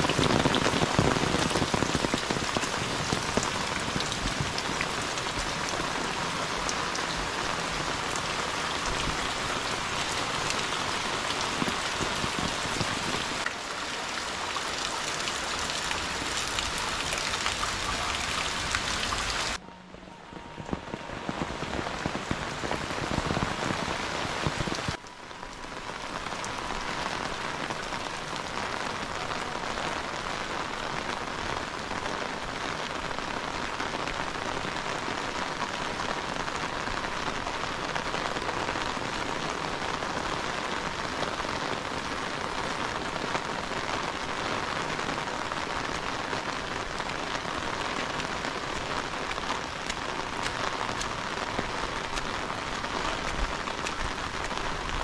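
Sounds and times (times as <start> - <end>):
heavy rain falling: 0.0 - 19.6, 20.2 - 55.0.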